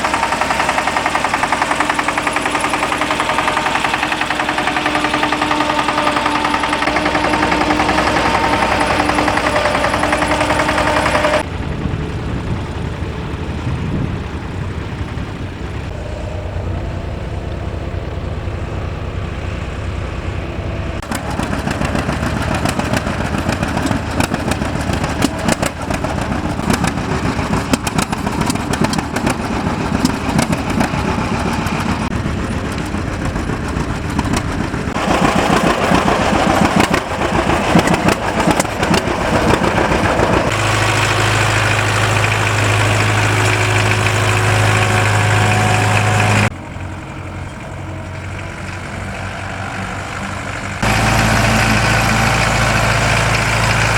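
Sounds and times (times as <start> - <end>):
rapid clattering: 0.0 - 53.9
tractor engine running: 0.0 - 53.9.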